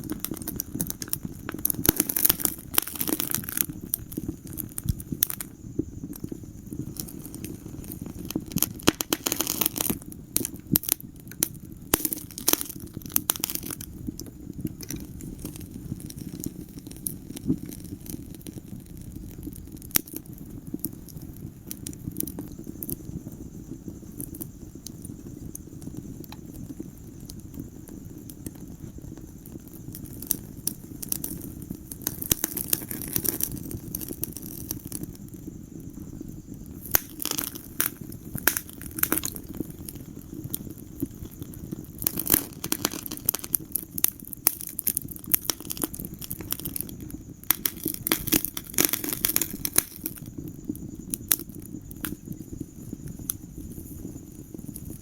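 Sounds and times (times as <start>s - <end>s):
fire crackles and pops: 0.0s - 55.0s
fire rushing flame: 0.0s - 55.0s.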